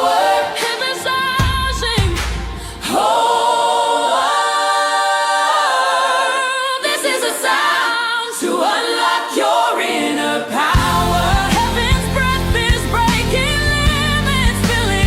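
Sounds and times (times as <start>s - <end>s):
a cappella vocal harmonies: 0.0s - 15.0s.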